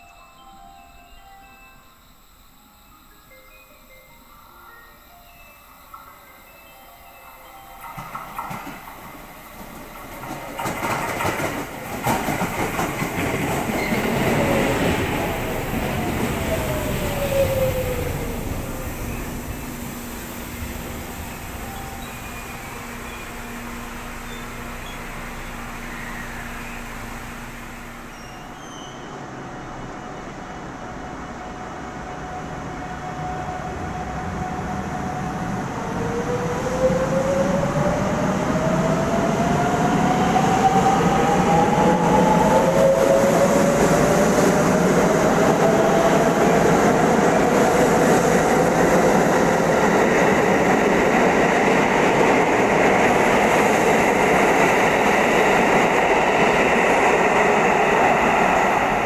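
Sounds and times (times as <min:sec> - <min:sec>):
wheels on rail: 0:03.2 - 0:59.0
train motor whine: 0:04.9 - 0:59.0.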